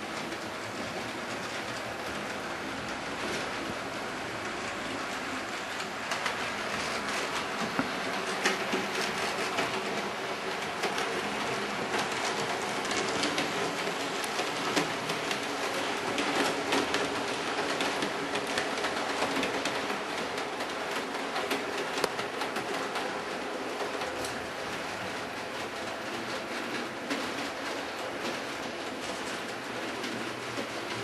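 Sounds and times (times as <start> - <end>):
model train rolling hum: 0.0 - 31.0
wheels clicking over rail joints: 0.0 - 31.0.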